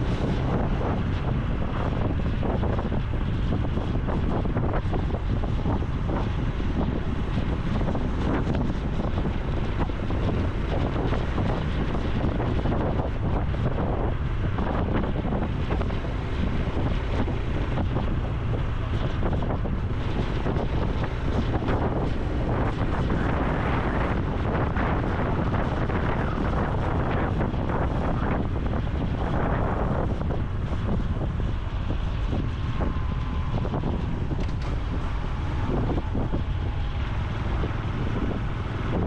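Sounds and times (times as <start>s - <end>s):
motorcycle engine cruising: 0.0s - 39.0s
wind rush on microphone: 0.0s - 39.0s.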